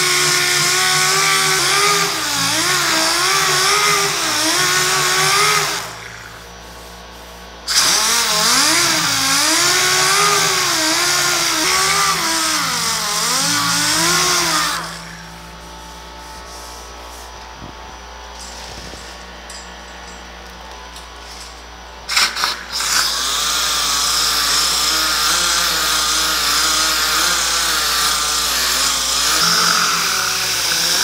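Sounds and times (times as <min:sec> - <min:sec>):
orbital sander whining: 0:00.0 - 0:20.2, 0:21.7 - 0:31.0.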